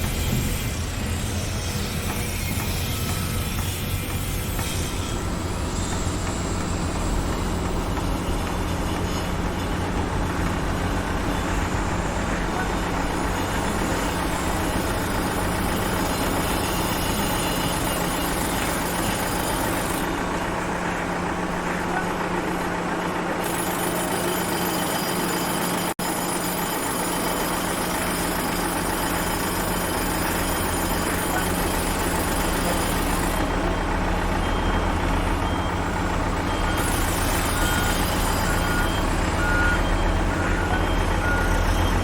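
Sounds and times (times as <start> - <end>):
heavy vehicle engine rumbling: 0.0 - 26.0, 26.8 - 42.0
construction site noise: 0.0 - 42.0.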